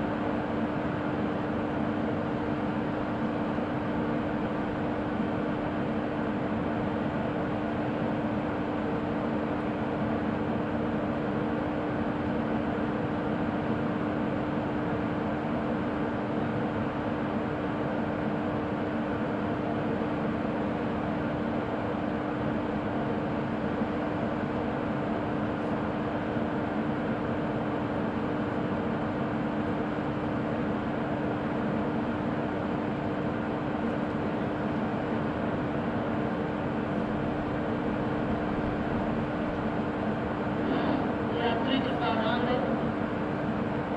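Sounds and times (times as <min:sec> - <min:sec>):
electric locomotive idling hum: 0:00.0 - 0:43.9.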